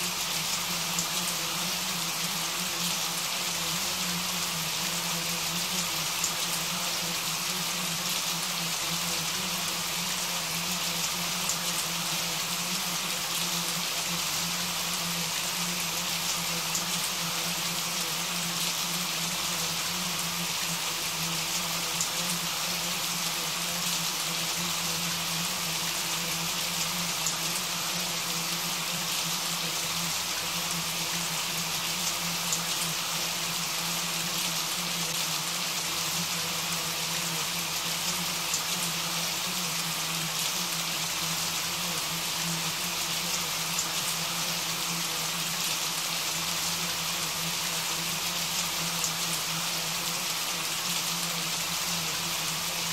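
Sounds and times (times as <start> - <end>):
steady rain: 0.0 - 52.9.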